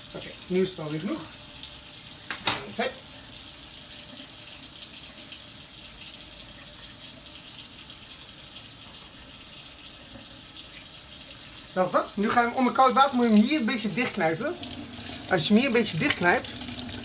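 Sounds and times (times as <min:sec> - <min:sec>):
tap water running into steel sink: 0:00.0 - 0:17.0.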